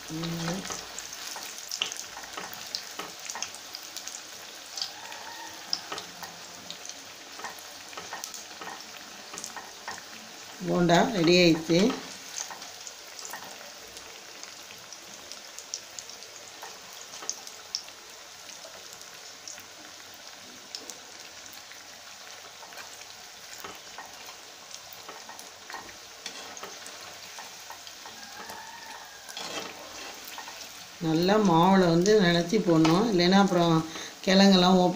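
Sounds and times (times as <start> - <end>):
deep-frying sizzle with pops: 0.0 - 34.9.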